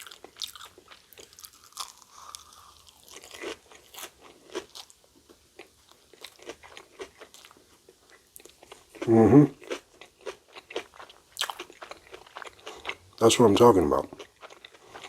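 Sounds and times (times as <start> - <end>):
crunchy chewing: 0.0 - 13.2, 14.0 - 15.0.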